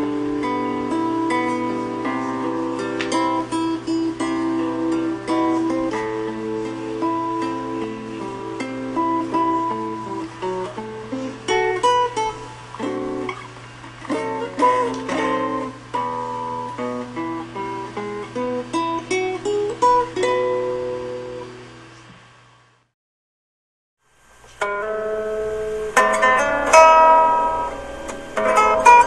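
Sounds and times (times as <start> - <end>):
plucked and strummed guitar music: 0.0 - 21.8, 24.5 - 29.0.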